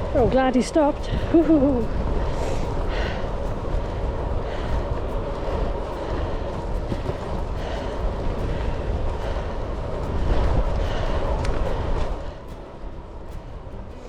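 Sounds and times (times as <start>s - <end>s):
road and tyre noise: 0.0s - 14.0s
wind rushing over microphone: 0.0s - 14.0s.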